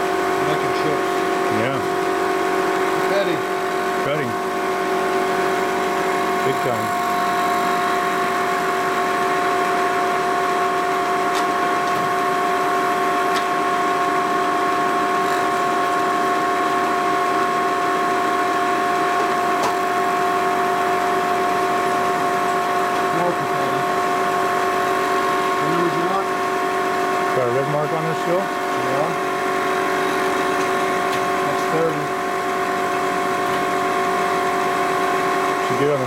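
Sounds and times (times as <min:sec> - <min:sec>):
milling machine whine: 0:00.0 - 0:36.0.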